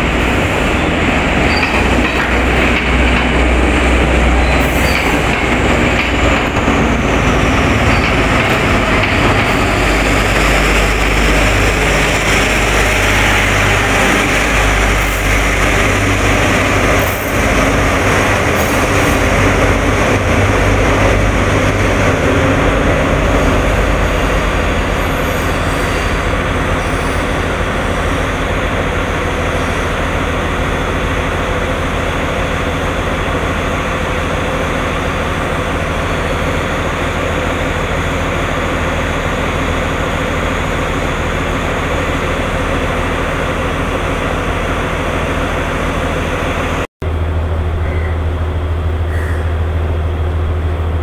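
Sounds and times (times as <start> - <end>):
diesel train engine humming: 0.0 - 51.0.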